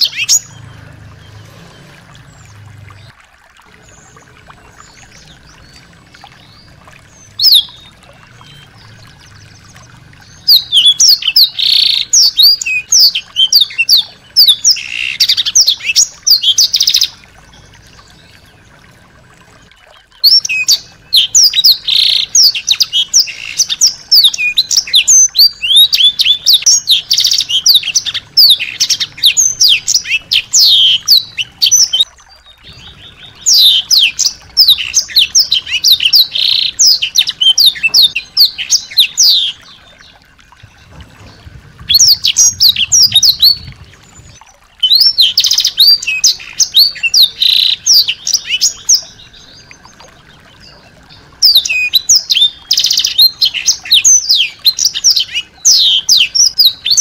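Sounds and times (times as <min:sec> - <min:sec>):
songbird singing trills: 0:00.0 - 0:18.9, 0:19.6 - 0:57.0.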